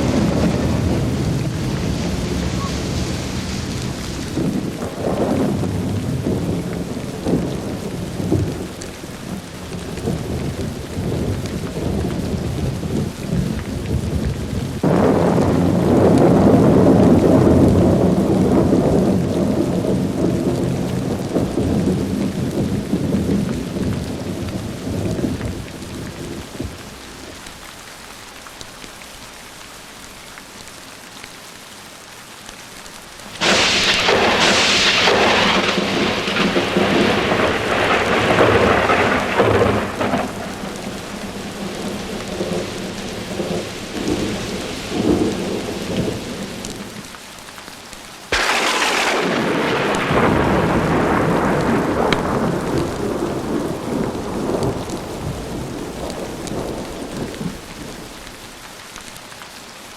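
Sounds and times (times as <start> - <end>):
sharp thunderclap: 0.0 - 8.7, 9.9 - 26.8, 33.3 - 47.0, 48.3 - 57.9
thunder rumbling: 0.0 - 27.3, 33.3 - 47.1, 48.3 - 58.2
rain falling: 0.0 - 59.9.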